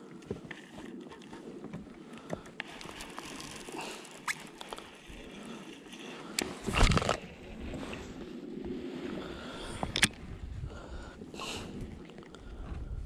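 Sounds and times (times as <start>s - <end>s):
water lapping against a kayak: 0.0s - 13.0s.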